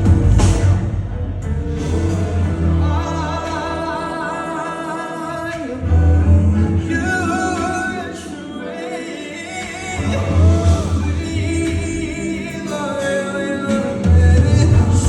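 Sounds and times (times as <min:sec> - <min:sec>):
live pop band: 0:00.0 - 0:15.0
person singing: 0:01.7 - 0:15.0.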